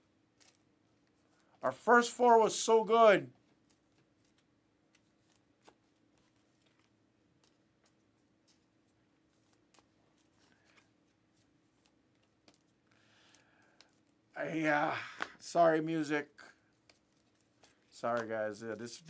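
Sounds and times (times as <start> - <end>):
trading cards handled by hand: 0.0 - 1.6, 2.9 - 15.4, 16.5 - 19.0.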